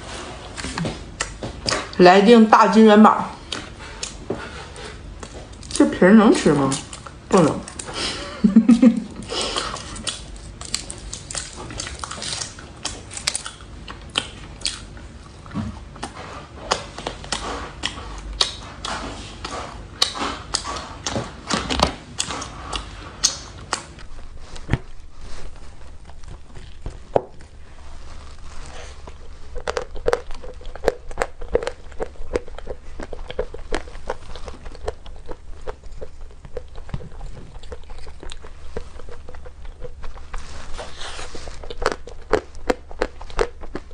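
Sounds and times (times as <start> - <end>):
biting and chewing food: 3.4 - 43.9.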